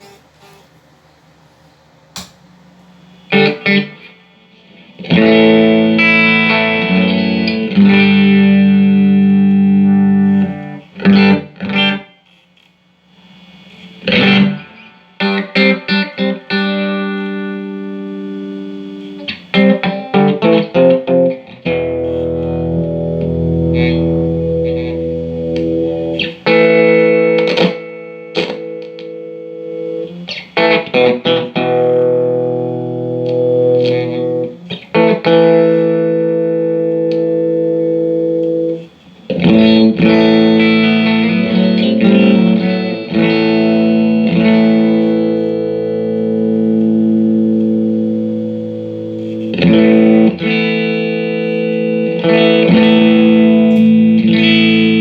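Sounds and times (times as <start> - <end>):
electric guitar strummed chords: 3.2 - 12.1, 14.0 - 55.0.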